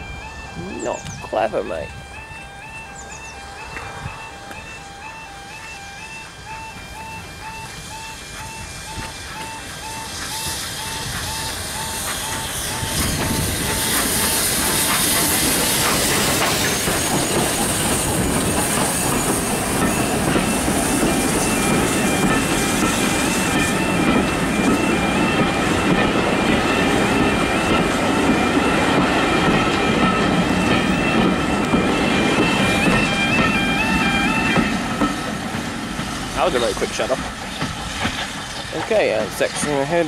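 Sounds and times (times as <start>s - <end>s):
level crossing alarm beeping: 0.0s - 37.2s
steam locomotive passing: 0.0s - 40.0s
train wheels clattering over rail joints: 7.6s - 40.0s.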